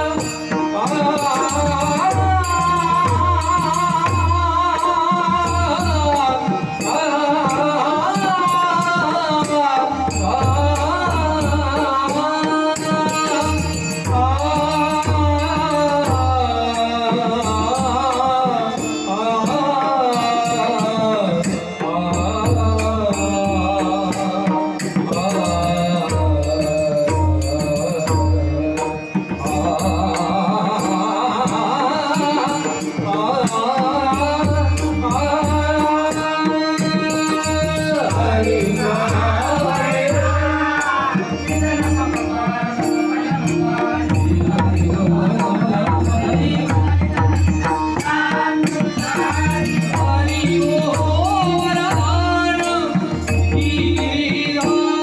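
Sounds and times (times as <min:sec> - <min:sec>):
harmonium drone: 0:00.0 - 0:55.0
man singing devotional song: 0:00.0 - 0:55.0.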